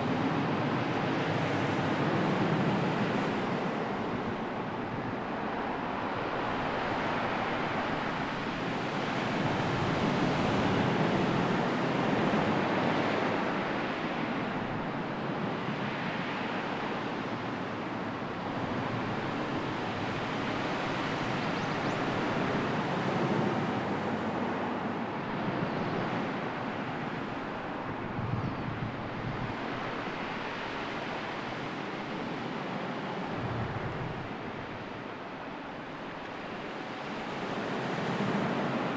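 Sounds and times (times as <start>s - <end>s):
sea waves washing ashore: 0.0s - 38.9s.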